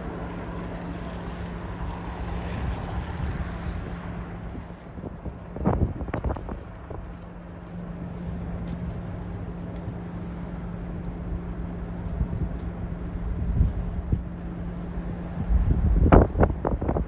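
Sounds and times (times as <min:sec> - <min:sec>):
diesel locomotive engine humming: 0:00.0 - 0:17.0
wind buffeting microphone: 0:00.0 - 0:17.0.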